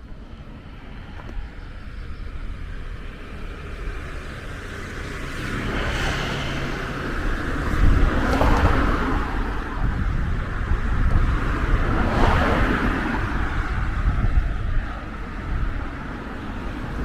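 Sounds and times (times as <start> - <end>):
cars passing close by: 0.0 - 17.0
traffic rumble: 0.0 - 17.0.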